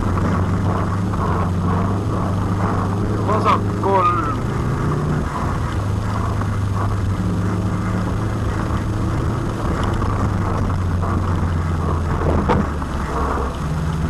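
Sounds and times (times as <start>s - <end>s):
car engine running under load: 0.0s - 14.0s
tyre and road noise: 0.0s - 14.0s.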